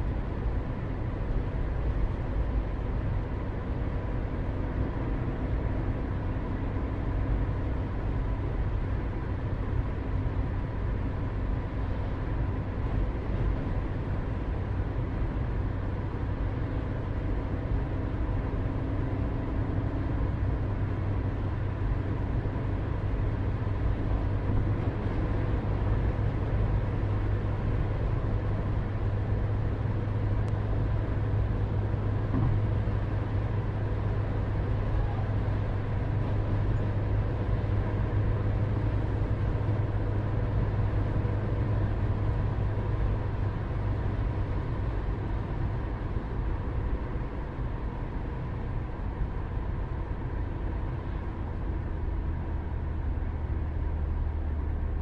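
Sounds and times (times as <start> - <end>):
constant hum: 0.0 - 55.0
distant road traffic rumble: 0.0 - 55.0.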